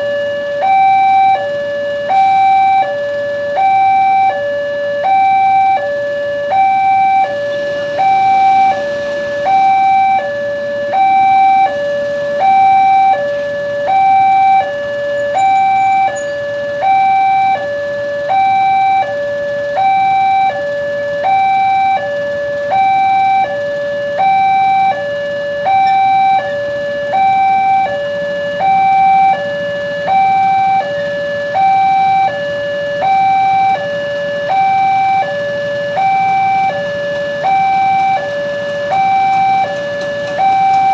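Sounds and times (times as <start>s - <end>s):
two-tone level crossing alarm: 0.0s - 40.9s.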